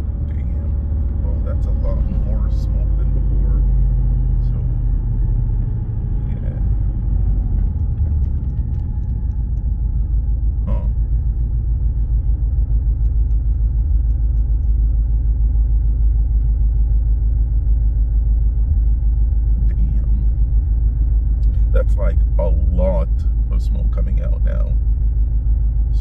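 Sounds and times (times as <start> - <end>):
car engine rumbling: 0.0 - 26.0.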